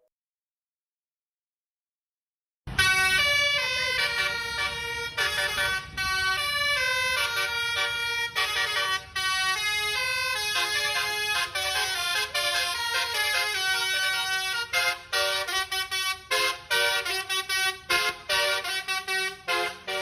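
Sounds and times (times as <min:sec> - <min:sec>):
low background noise: 0:02.7 - 0:20.0
musical bus horn: 0:02.7 - 0:20.0.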